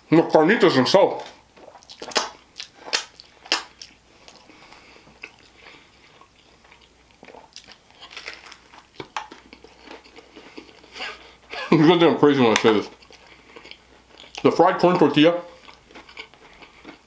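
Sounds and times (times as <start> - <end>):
crunching of fried food: 1.2 - 11.1, 12.5 - 17.0
soft chewing: 1.2 - 11.5, 12.7 - 14.6, 15.5 - 17.0.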